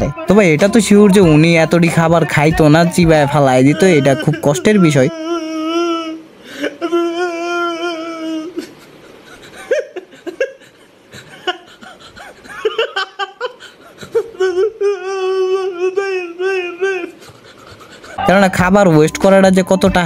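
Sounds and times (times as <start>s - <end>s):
man wailing: 0.0s - 9.8s, 12.4s - 20.0s
man sobbing: 0.0s - 20.0s.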